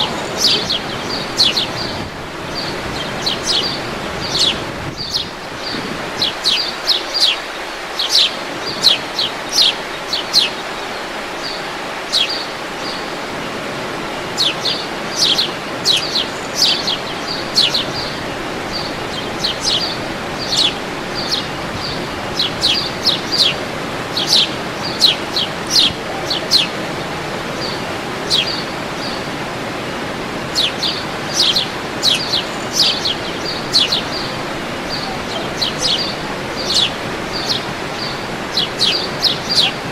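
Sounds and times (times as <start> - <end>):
birds chirping: 0.0 - 39.9
waterfall rushing: 0.0 - 39.9.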